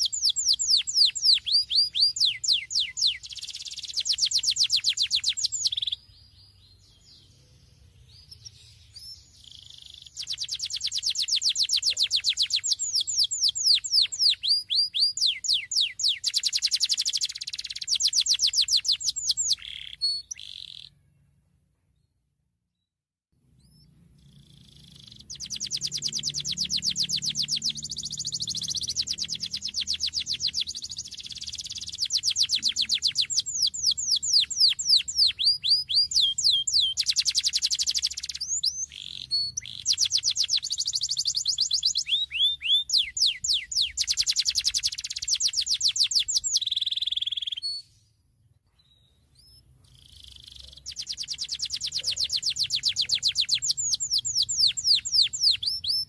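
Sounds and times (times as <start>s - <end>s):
canary singing trills: 0.0s - 21.4s, 23.4s - 48.1s, 48.8s - 56.0s.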